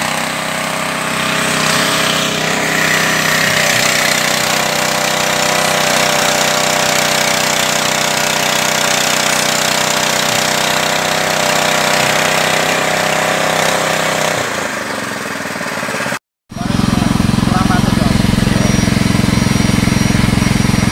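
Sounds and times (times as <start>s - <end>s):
extruder rattling churn: 0.0s - 20.9s
small petrol engine drone: 0.0s - 20.9s.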